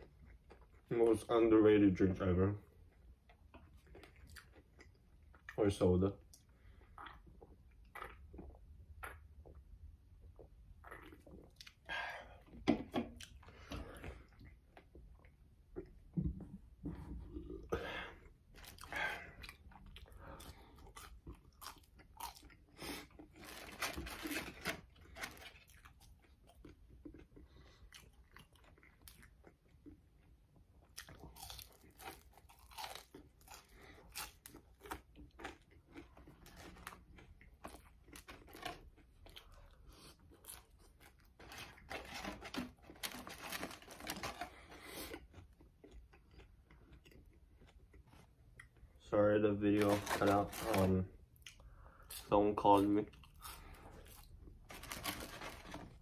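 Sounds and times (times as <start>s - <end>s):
person chewing crunchy fries: 0.0s - 0.9s, 2.8s - 12.5s, 17.3s - 48.9s, 49.7s - 56.0s.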